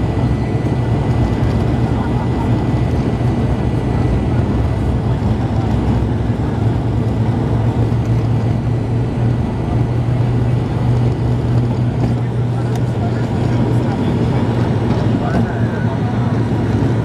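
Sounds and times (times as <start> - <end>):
low propeller drone: 0.0 - 17.0
runway rumble: 0.0 - 17.0.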